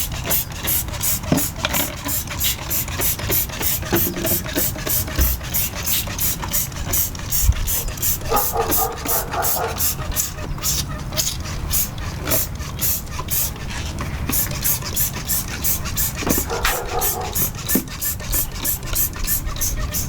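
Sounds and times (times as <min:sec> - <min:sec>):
spray bottle hissing sprays: 0:00.0 - 0:20.0.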